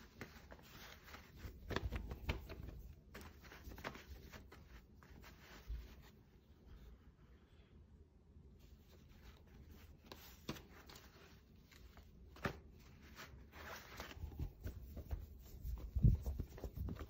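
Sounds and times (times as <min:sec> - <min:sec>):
scratching and rustling handling: 0:00.0 - 0:07.2, 0:08.6 - 0:17.0.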